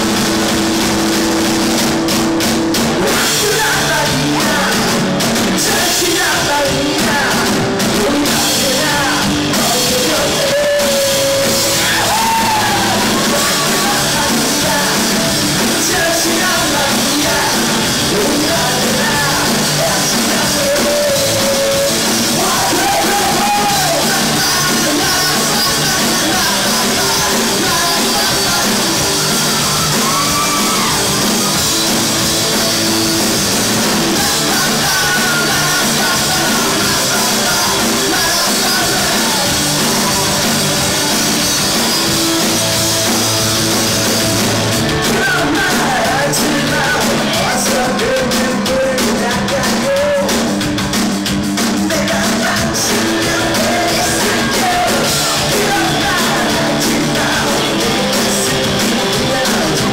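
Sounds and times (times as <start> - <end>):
rock band playing: 0.0 - 59.9
man singing: 2.8 - 51.0, 51.6 - 59.9.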